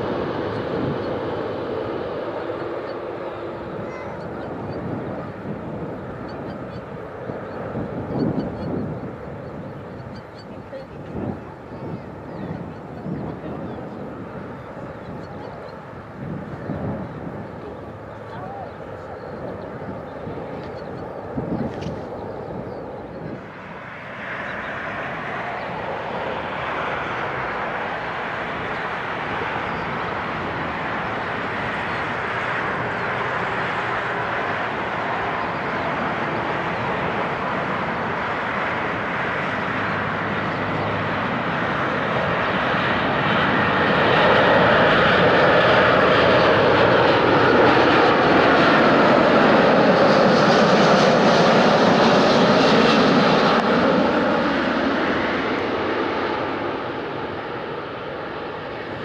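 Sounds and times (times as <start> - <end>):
jet engines rumble and hiss: 0.0 - 59.0.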